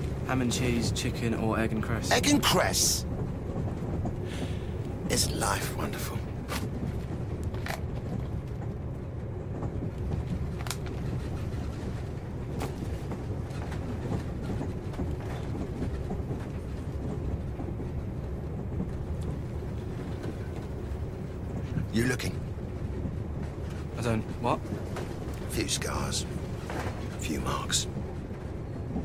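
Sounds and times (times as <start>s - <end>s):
train rumble from inside carriage: 0.0s - 29.0s.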